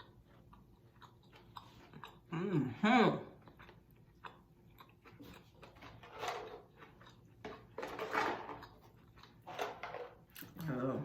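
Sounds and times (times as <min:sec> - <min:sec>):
person chewing food: 0:00.0 - 0:10.7.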